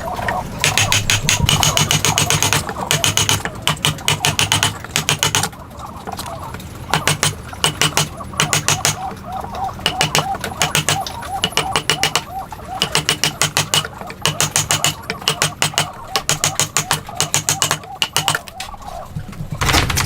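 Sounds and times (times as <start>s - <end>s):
rapid sharp tapping: 0.6s - 5.6s, 6.9s - 19.3s.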